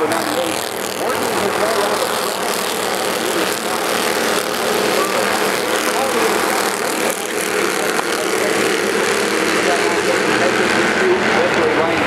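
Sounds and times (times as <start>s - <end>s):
race car engines droning: 0.0s - 12.0s
voices: 0.0s - 12.0s.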